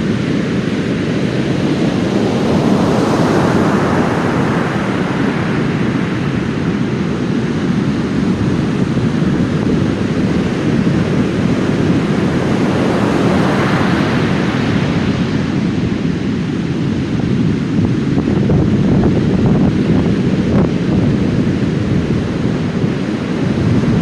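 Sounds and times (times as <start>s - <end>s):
waves breaking on sand beach: 0.0s - 24.0s.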